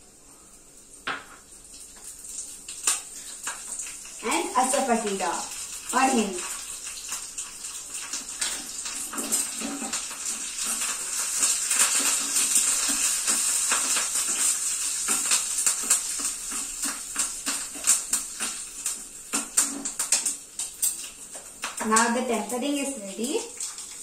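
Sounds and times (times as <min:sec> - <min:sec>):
spices sizzling in hot ghee: 0:00.0 - 0:24.0.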